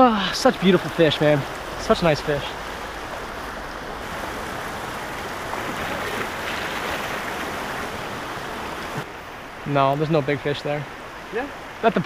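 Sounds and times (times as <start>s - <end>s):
creek water over stones: 0.0s - 12.0s.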